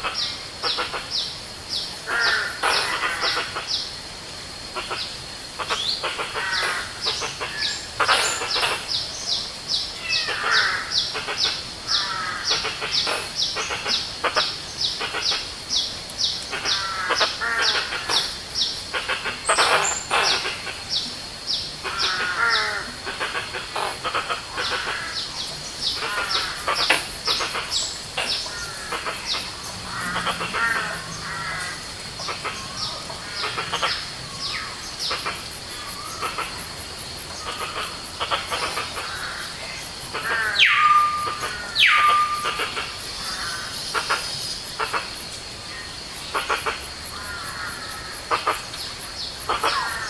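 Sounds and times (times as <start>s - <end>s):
songbirds chorus: 0.0s - 50.0s
swooping bird calls: 4.8s - 45.2s.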